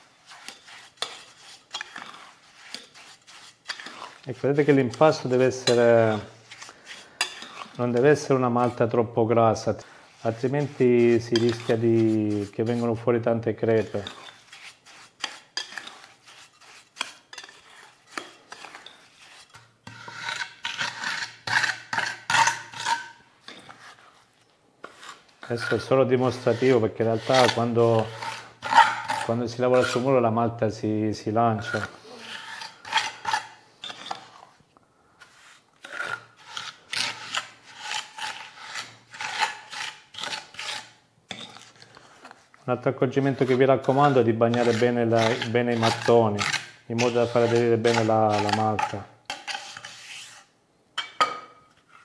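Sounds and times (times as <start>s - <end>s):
trowel scraping mortar in glass bowl: 0.0s - 9.0s, 9.6s - 30.3s, 31.5s - 34.6s, 35.2s - 42.2s, 43.0s - 51.2s.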